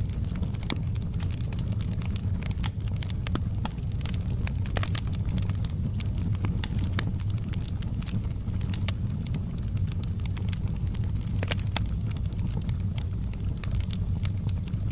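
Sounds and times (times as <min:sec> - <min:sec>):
low rumble of flames: 0:00.0 - 0:14.9
wood fire crackling: 0:00.0 - 0:14.9.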